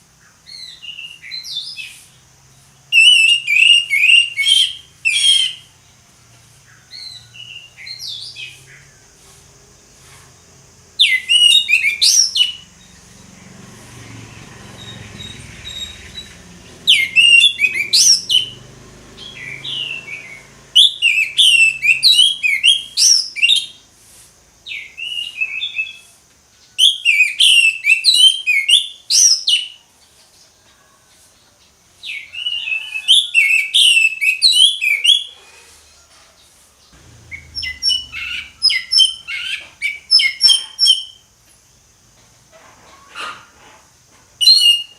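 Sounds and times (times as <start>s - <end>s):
thrush singing whistles and trills: 0.2s - 24.0s, 24.6s - 29.9s, 32.0s - 35.5s, 36.8s - 41.4s, 44.4s - 44.9s.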